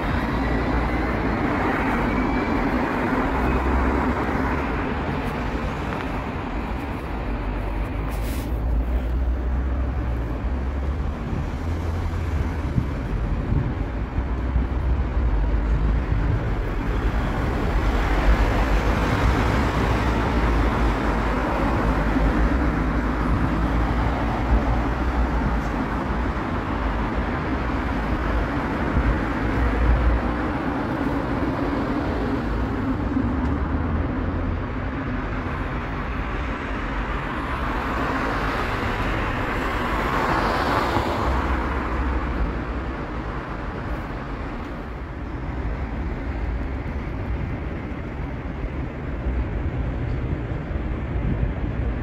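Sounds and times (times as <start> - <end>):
city road traffic: 0.0 - 52.0.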